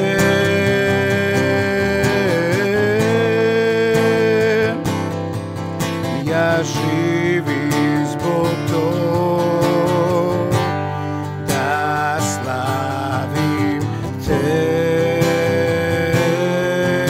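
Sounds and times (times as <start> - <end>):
man singing long notes: 0.0 - 5.0, 6.0 - 17.0
acoustic guitar strumming: 0.0 - 17.0.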